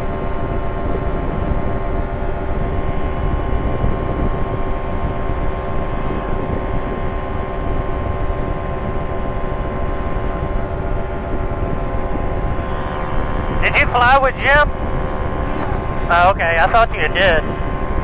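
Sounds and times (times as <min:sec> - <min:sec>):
aircraft engine drone: 0:00.0 - 0:18.0
rushing wind noise: 0:00.0 - 0:18.0.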